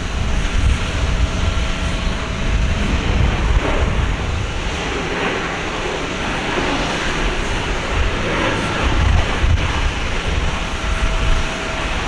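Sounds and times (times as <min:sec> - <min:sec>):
jet aircraft rumble and whine: 0:00.0 - 0:12.0.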